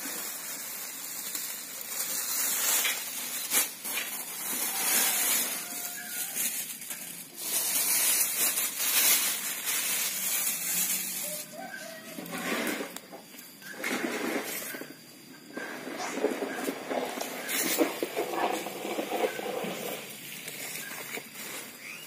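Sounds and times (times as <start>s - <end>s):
soil rustling and crackling: 0.0s - 22.0s.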